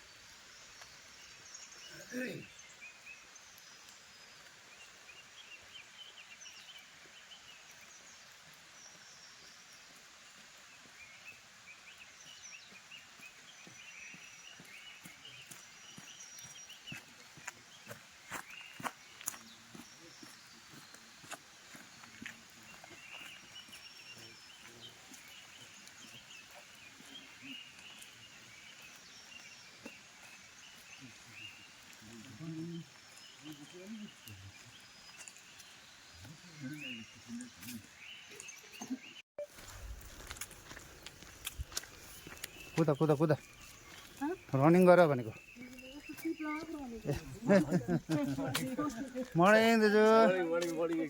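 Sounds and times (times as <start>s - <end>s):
background hiss: 0.0s - 51.0s
small birds chirping: 0.0s - 51.0s.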